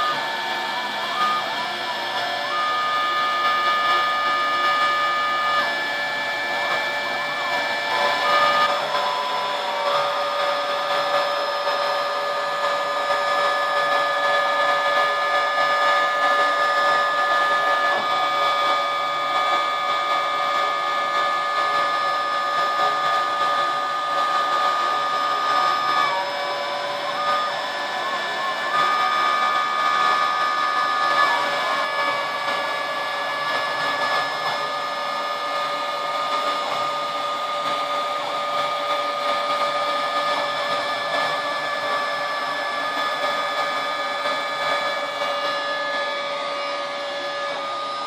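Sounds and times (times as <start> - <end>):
router motor whine: 0.0 - 48.0.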